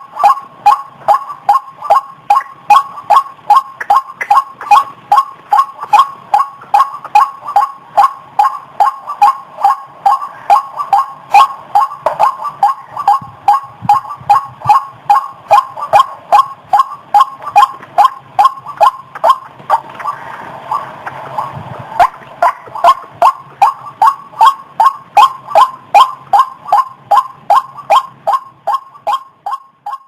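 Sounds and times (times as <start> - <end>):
bird calling kwak notes: 0.0 - 30.0.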